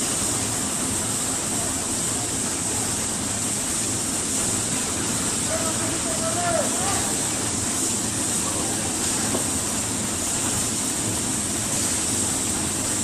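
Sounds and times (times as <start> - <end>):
machinery hiss and hum: 0.0 - 13.0.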